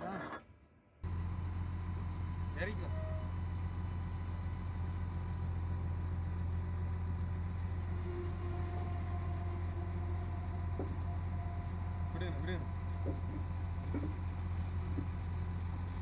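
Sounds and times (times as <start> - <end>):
engine idling: 1.0 - 16.0.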